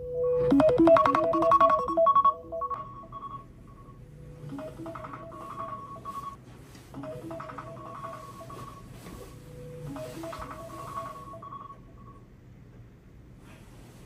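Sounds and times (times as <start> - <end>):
phone alarm melodic tone: 0.0 - 6.4, 7.0 - 12.2.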